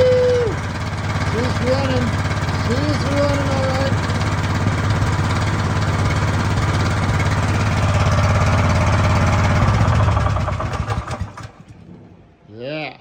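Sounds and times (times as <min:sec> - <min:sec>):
small single-cylinder engine running: 0:00.0 - 0:11.8.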